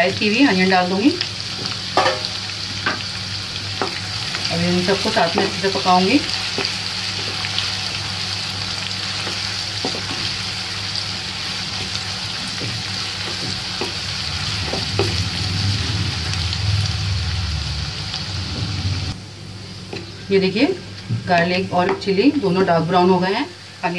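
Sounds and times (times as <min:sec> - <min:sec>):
food sizzling in hot oil: 0:00.0 - 0:23.9
low steady hum: 0:00.0 - 0:23.9.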